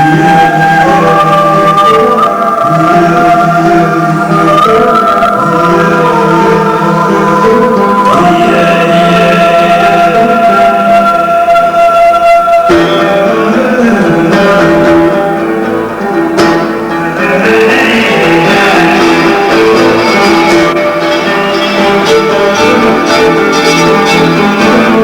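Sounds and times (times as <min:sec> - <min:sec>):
guitar playing: 0:00.0 - 0:25.0
long held string notes: 0:00.0 - 0:25.0.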